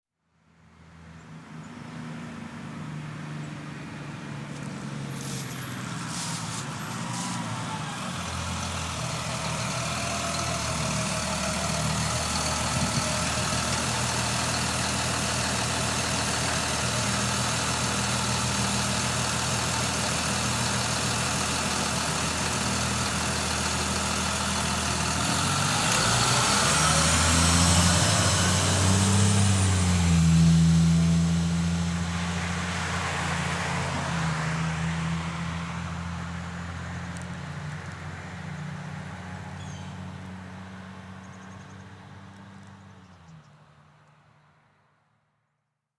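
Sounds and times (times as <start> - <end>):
bus engine idling and revving: 2.3 - 44.6.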